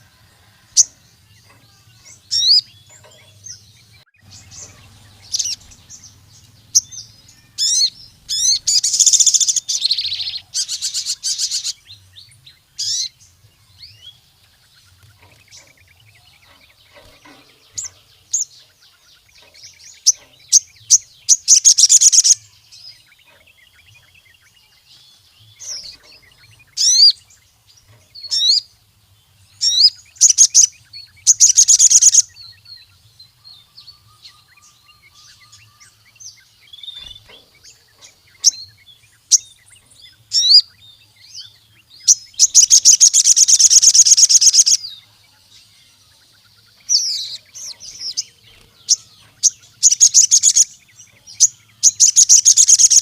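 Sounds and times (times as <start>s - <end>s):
bird rapid trill: 0.0s - 13.3s, 13.9s - 28.9s, 29.5s - 32.9s, 33.6s - 53.0s
bird singing high chirps: 0.0s - 53.0s.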